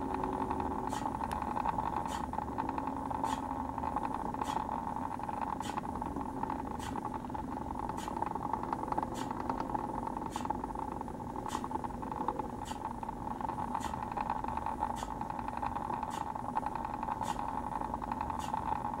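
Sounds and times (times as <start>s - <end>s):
turntable motor hum: 0.0s - 19.0s.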